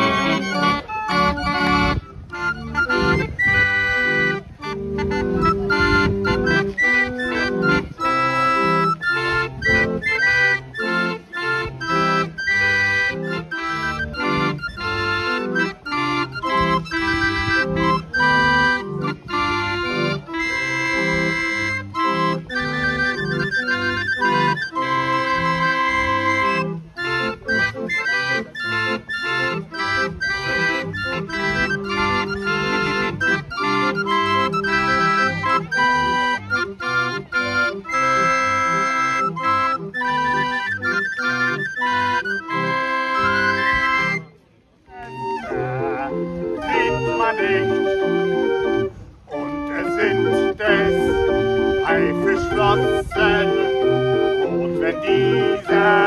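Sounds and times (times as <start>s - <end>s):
barrel organ playing: 0.0s - 56.0s.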